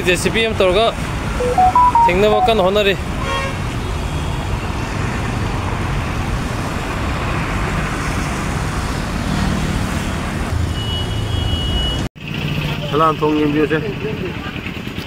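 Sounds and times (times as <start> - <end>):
low rumble of traffic: 2.6 - 15.0.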